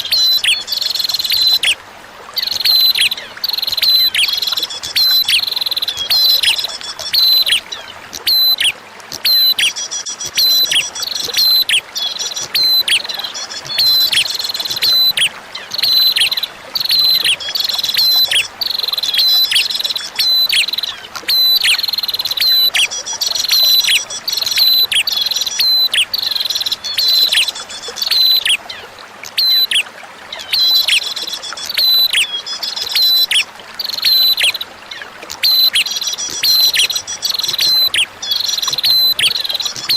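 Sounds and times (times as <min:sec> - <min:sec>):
bird chirping and trilling: 0:00.0 - 0:01.8, 0:02.4 - 0:39.9
running water: 0:00.0 - 0:39.9.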